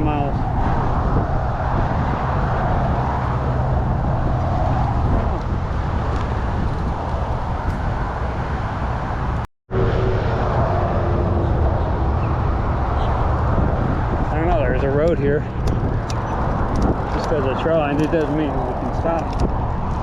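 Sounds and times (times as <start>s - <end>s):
road traffic noise: 0.0s - 20.0s
wind rumble: 0.0s - 20.0s.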